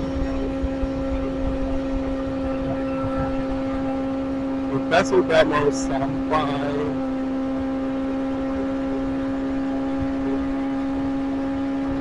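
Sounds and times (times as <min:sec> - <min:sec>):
wind noise on microphone: 0:00.0 - 0:04.9, 0:05.7 - 0:12.0
motorcycle engine cruising: 0:00.0 - 0:12.0.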